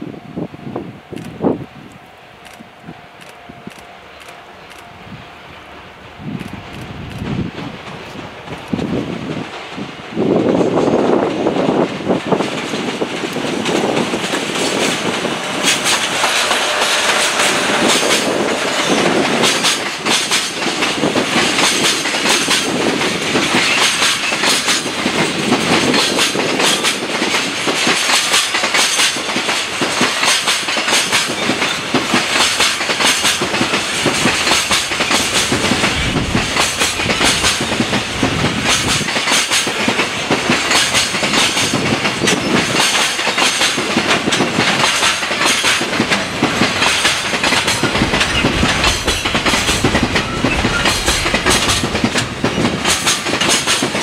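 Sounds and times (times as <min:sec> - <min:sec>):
freight train passing: 0:00.0 - 0:54.0
wheels clacking over rail joints: 0:10.6 - 0:54.0.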